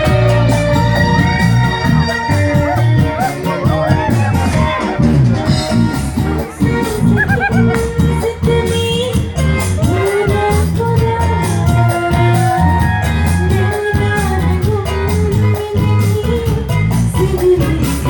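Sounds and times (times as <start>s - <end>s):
rock band playing: 0.0s - 18.0s
woman singing into microphone: 0.0s - 18.0s.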